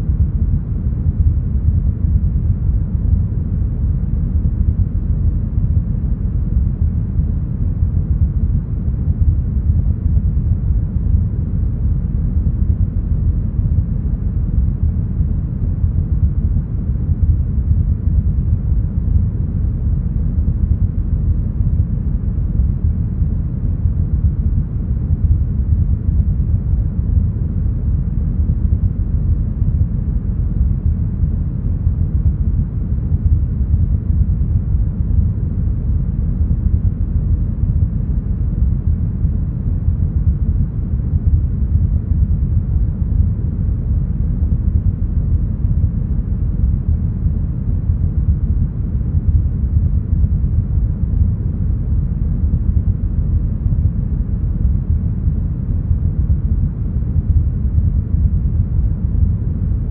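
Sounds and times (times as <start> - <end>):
deep brown noise: 0.0 - 59.9.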